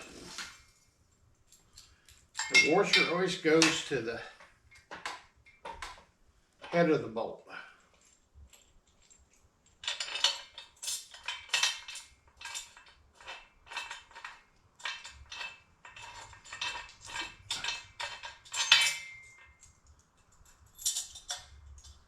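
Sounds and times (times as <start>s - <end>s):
metal bolts and nuts clinking: 1.5s - 7.0s, 7.9s - 22.0s.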